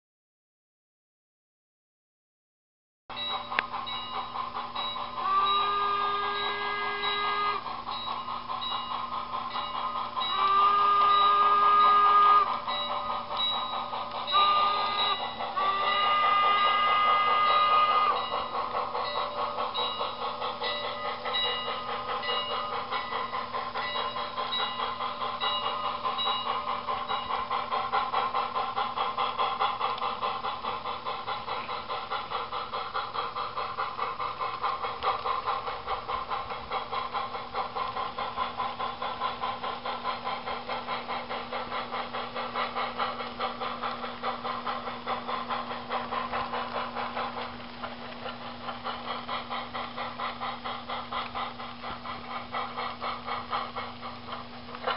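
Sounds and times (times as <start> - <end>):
model steam locomotive chuffing: 3.1 - 54.9.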